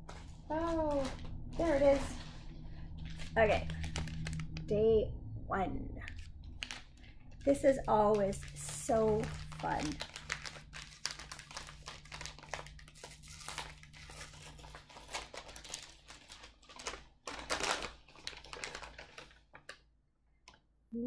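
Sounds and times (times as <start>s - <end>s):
wrapping crinkling and tearing: 0.0s - 4.6s, 6.0s - 19.8s.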